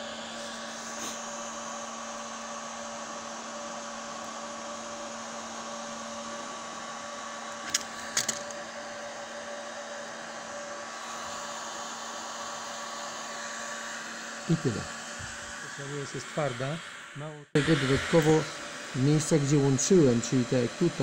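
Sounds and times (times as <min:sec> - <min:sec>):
heat gun blowing: 0:00.0 - 0:21.0.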